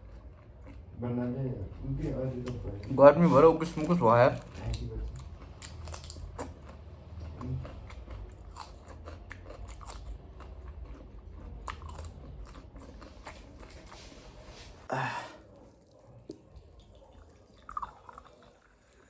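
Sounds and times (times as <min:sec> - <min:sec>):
person chewing and crunching: 0:00.0 - 0:01.0, 0:01.6 - 0:19.0
low steady hum: 0:00.0 - 0:19.0.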